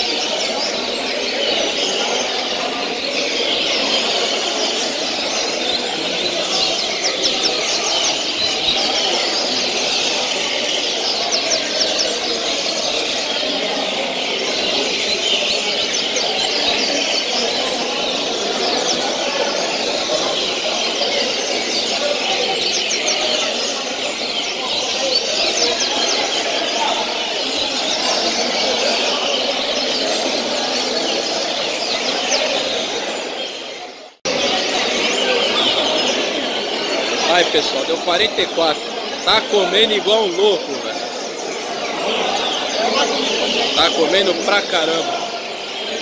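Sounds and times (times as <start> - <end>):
birds twittering: 0.0 - 46.0.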